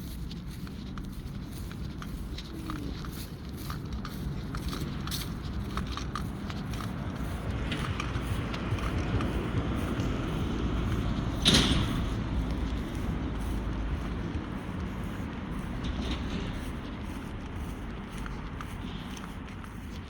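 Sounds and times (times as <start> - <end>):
footsteps on a path: 0.0 - 20.0.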